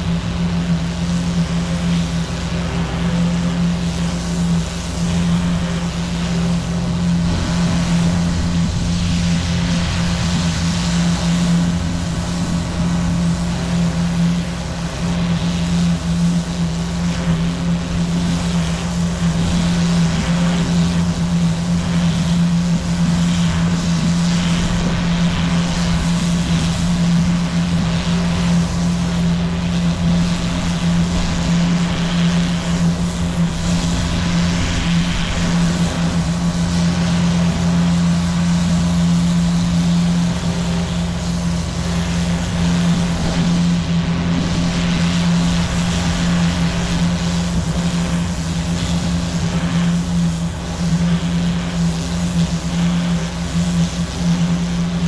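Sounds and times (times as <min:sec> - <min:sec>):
pressure washer machine hum: 0:00.0 - 0:55.0.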